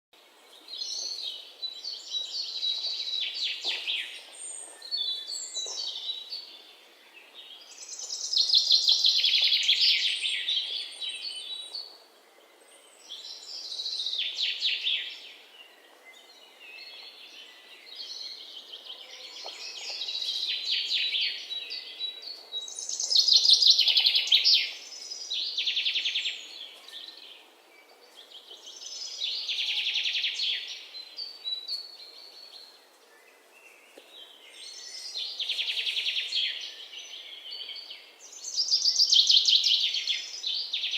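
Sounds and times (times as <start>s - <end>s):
small birds chirping: 0.2s - 40.9s.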